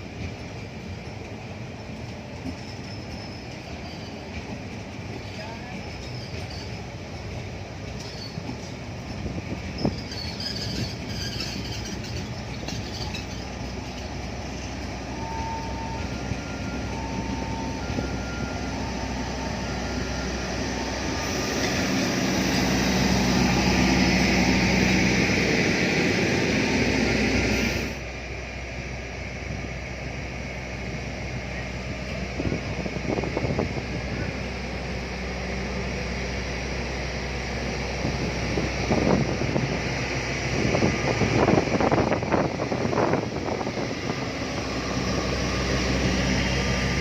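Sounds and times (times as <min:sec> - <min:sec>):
train running on rails: 0:00.0 - 0:47.0.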